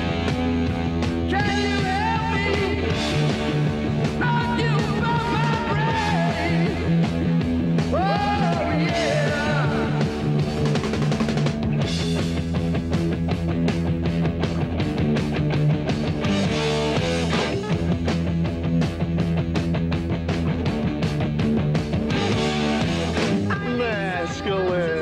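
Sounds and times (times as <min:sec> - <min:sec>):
rock music: 0:00.0 - 0:25.0.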